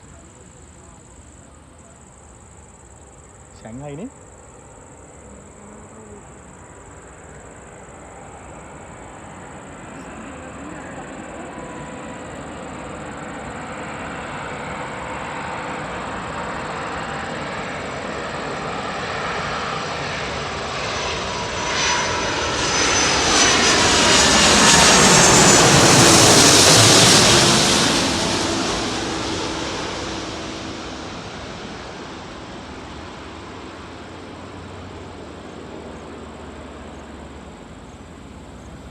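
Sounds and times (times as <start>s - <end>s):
jet engines passing overhead: 0.0s - 38.9s.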